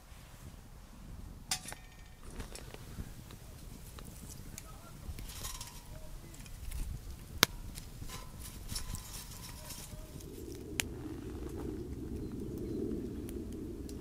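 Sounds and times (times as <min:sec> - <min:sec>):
low steady rushing: 0:00.0 - 0:14.0
wood fire crackling: 0:00.0 - 0:14.0
sharp crack: 0:01.5 - 0:14.0.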